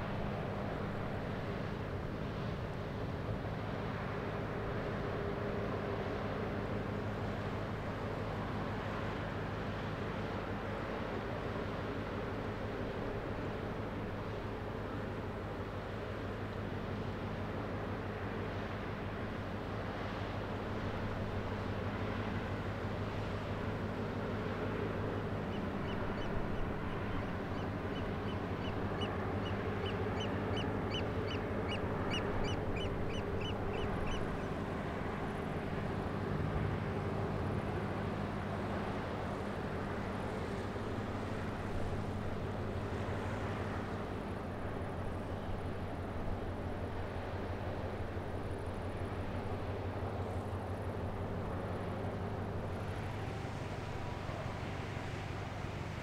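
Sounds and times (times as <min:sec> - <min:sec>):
ship engine drone: 0:00.0 - 0:56.0.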